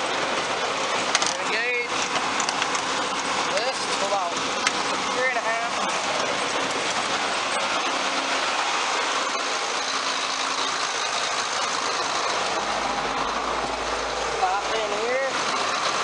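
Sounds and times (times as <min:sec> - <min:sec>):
rush of machinery noise: 0:00.0 - 0:16.0
tractor diesel engine running: 0:00.0 - 0:16.0.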